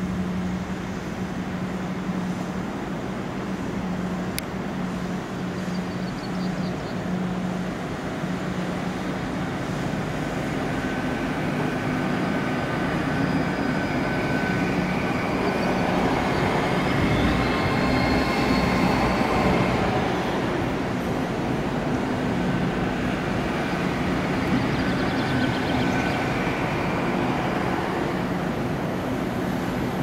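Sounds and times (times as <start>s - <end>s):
train motors humming: 0.0s - 30.0s.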